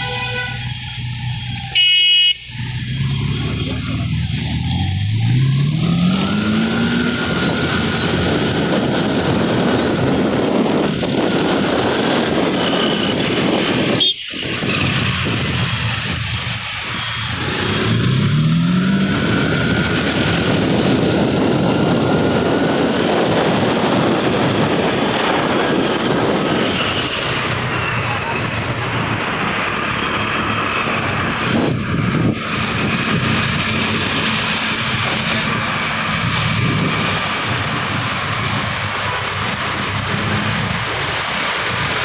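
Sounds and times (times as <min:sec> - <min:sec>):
engine revving: 0:00.8 - 0:42.0
scooter engine noise: 0:01.4 - 0:42.0
wind rush: 0:02.6 - 0:42.0.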